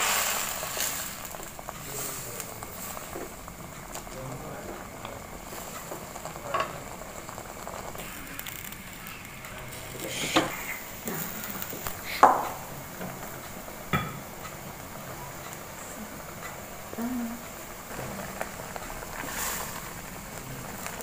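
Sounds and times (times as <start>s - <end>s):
broth simmering hiss: 0.0s - 21.0s
spatula stirring noodles in wok: 0.0s - 21.0s.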